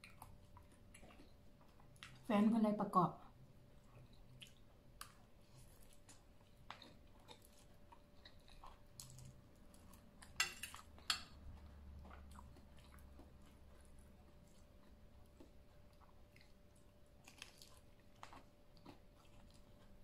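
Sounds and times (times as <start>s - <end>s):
close chewing: 0.0s - 2.4s, 3.1s - 20.0s.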